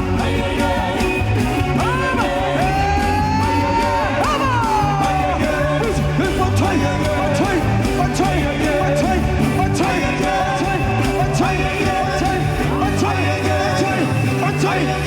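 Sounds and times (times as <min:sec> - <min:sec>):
bass: 0:00.0 - 0:15.0
drums: 0:00.0 - 0:15.0
live gospel band: 0:00.0 - 0:15.0
person singing: 0:00.0 - 0:15.0.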